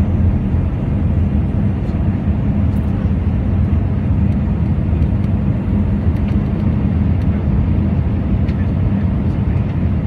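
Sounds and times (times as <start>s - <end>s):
airplane low roar: 0.0s - 10.0s.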